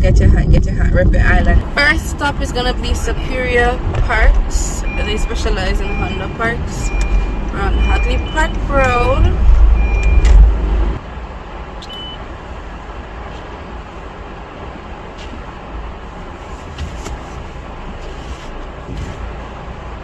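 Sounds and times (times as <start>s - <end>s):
car interior road and engine noise: 0.0s - 20.0s.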